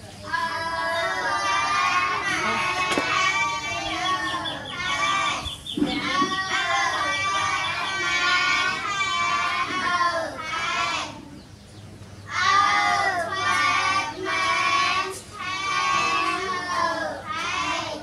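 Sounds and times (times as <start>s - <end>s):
child singing: 0.2s - 11.3s, 12.3s - 18.0s.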